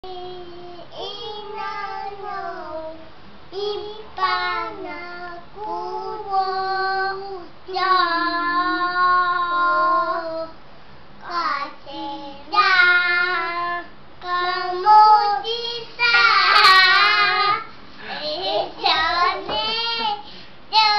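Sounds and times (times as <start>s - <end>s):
children singing unaccompanied: 0.1s - 10.6s, 11.2s - 17.7s, 18.3s - 20.2s.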